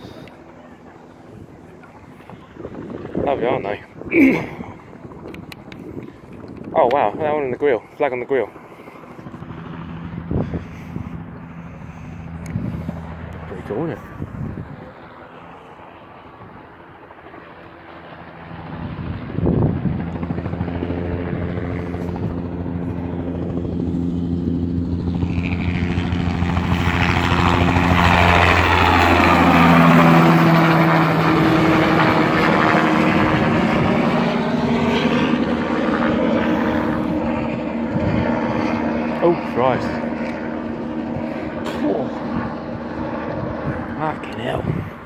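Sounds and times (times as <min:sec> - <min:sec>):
helicopter flying past: 0:00.0 - 0:45.0.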